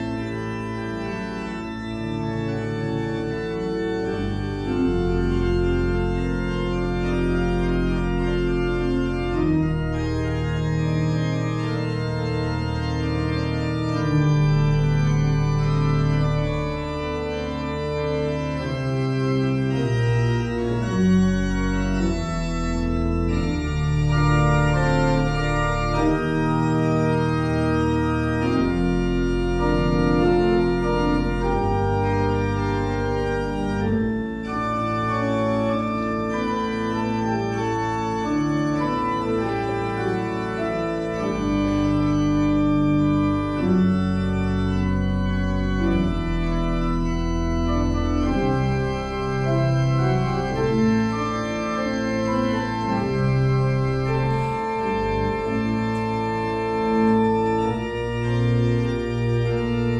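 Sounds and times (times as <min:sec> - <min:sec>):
organ playing sustained chords: 0:00.0 - 0:59.9.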